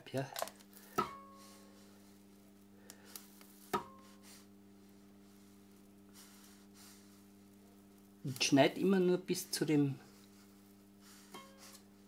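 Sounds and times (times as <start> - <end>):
faint mains hum: 0.0 - 12.0.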